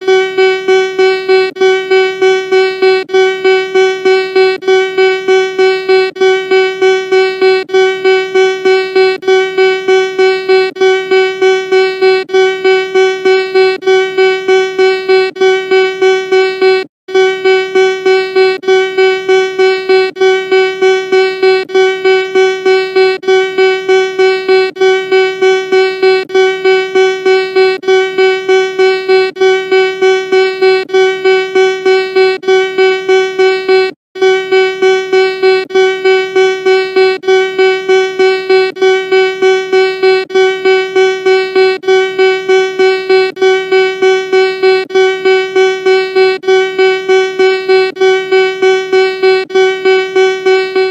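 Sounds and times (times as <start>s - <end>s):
pulsing electronic alarm tone: 0.0s - 50.9s.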